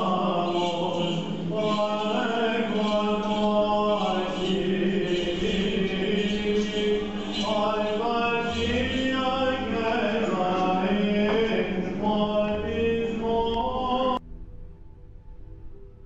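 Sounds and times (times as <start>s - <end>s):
men chanting with drone note: 0.0s - 14.2s.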